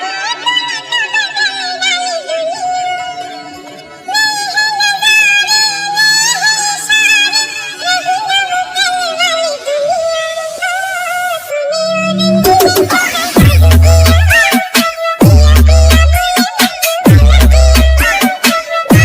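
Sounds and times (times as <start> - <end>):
pop song remix: 0.0 - 19.0.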